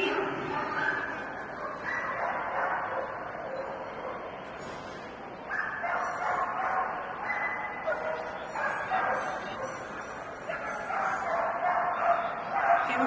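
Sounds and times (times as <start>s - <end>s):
dog barking in echoing hall: 0.0s - 4.6s, 5.4s - 13.0s.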